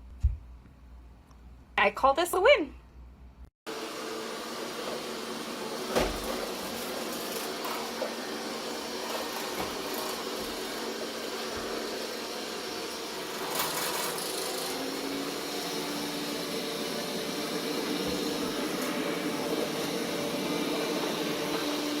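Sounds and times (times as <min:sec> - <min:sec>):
robot vacuum running: 0:03.7 - 0:22.0.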